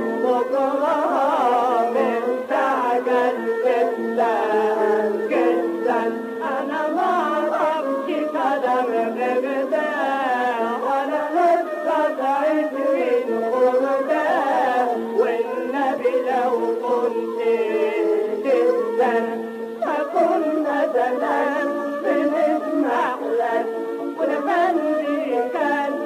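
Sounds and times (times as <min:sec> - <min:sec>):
instrumental accompaniment: 0:00.0 - 0:26.0
person singing ornamented melody: 0:00.0 - 0:26.0.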